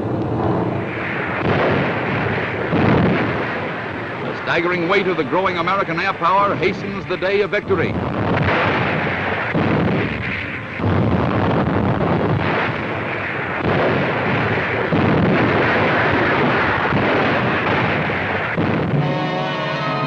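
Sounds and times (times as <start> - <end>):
explosions and gunfire: 0.0 - 20.0.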